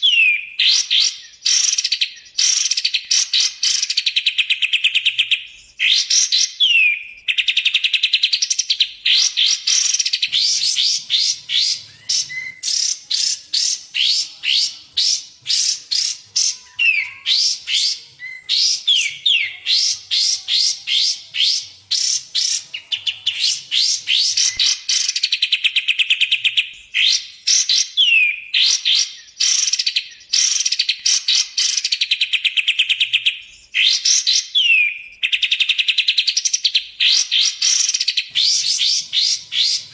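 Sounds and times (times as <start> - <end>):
bulbul birdsong trills and chatter: 0.0 - 39.9.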